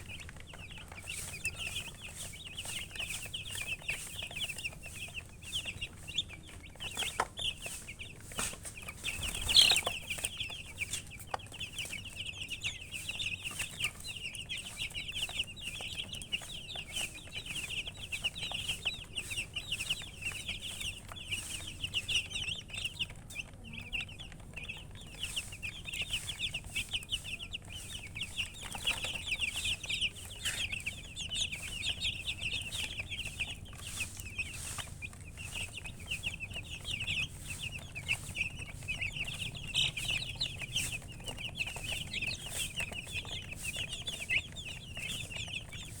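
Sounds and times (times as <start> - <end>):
baby chicks peeping: 0.0 - 46.0.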